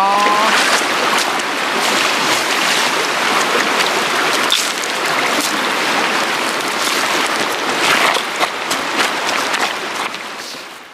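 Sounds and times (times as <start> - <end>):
water splashing onto gravel: 0.0 - 10.4
mountain stream rushing: 0.0 - 10.9.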